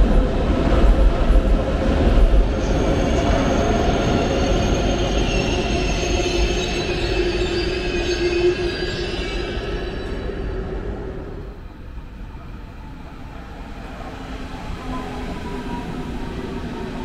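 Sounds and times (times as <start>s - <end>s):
train rumble: 0.0s - 17.0s
train wheels squealing: 2.6s - 17.0s.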